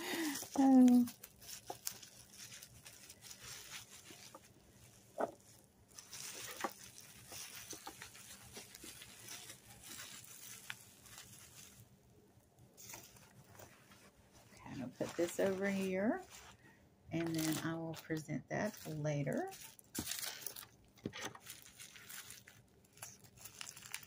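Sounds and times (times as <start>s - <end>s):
bubble wrap rustling: 0.0s - 24.0s
plastic crackles: 0.0s - 24.0s.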